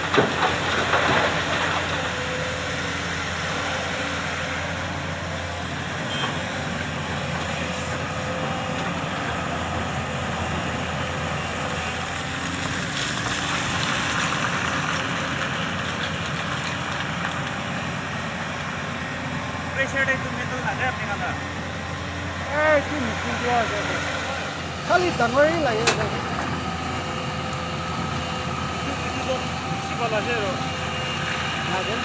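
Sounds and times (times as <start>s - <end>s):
diesel engines running: 0.0s - 32.0s.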